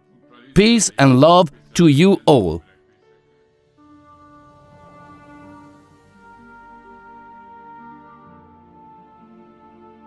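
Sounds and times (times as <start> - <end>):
slow melody background music: 0.0 - 10.0.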